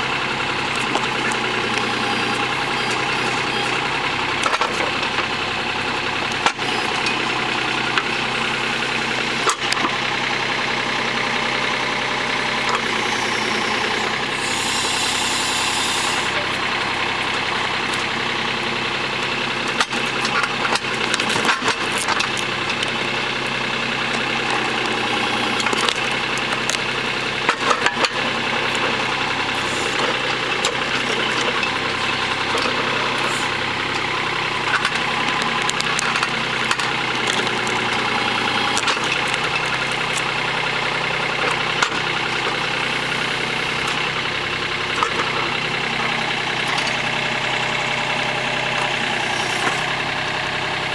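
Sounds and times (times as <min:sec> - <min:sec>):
backhoe knocks and clunks: 0:00.0 - 0:50.9
diesel engine running: 0:00.0 - 0:50.9.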